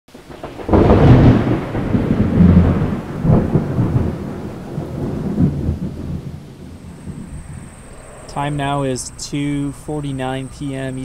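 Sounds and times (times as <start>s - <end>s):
thunder clap and rumble: 0.1s - 10.6s.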